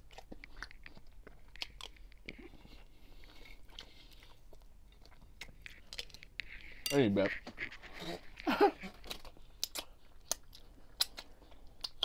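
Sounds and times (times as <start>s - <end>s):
person chewing food: 0.0s - 6.9s, 7.6s - 12.0s.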